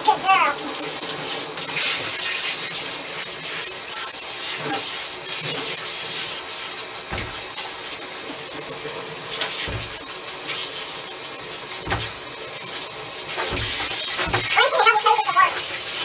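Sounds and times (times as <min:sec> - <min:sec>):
shower spray hissing: 0:00.0 - 0:08.0, 0:09.3 - 0:11.1, 0:11.8 - 0:16.0.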